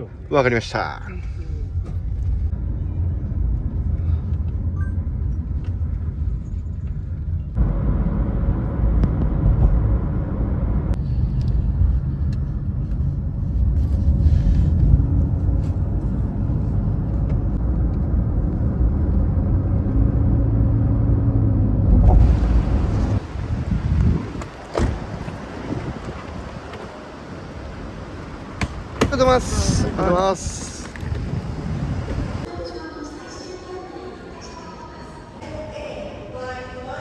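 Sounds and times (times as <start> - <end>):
road and engine rumble: 0.0 - 32.7.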